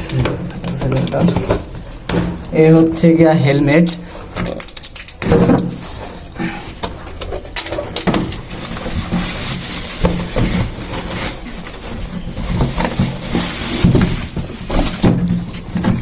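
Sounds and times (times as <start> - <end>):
packaging rustling: 0.0 - 2.6, 4.6 - 16.0.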